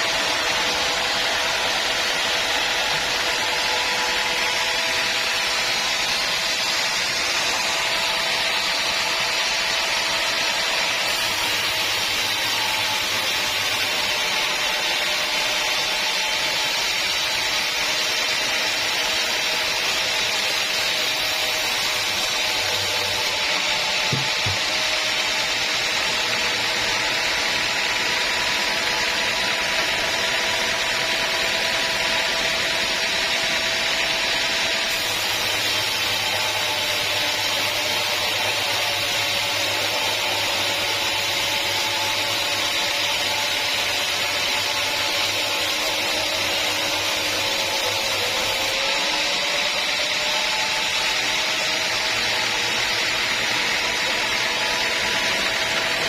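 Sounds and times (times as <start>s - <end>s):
mill whine: 0.0s - 40.8s, 45.4s - 56.0s
sawmill blade cutting log: 0.0s - 56.0s.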